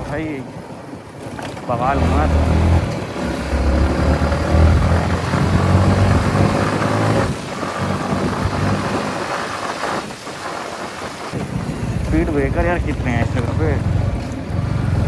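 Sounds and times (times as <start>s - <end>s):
motorcycle engine running: 1.8s - 15.0s.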